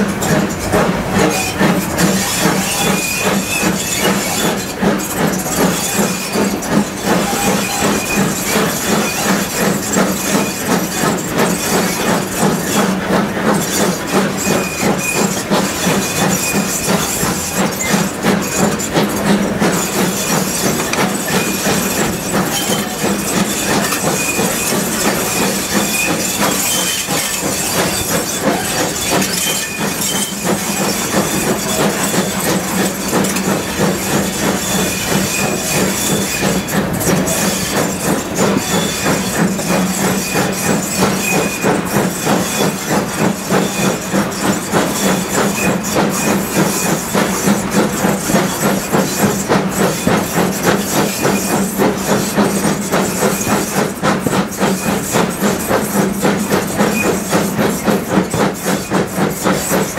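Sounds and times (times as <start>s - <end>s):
steam hissing: 0.0s - 59.9s
steam locomotive exhaust beats: 0.0s - 59.9s
train on rails: 0.0s - 59.9s.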